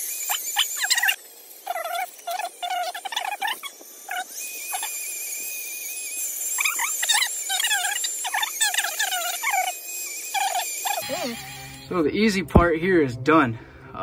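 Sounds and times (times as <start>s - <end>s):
rotary tool motor whine: 0.0s - 12.0s
grinding disc chirping squeals: 0.0s - 12.4s.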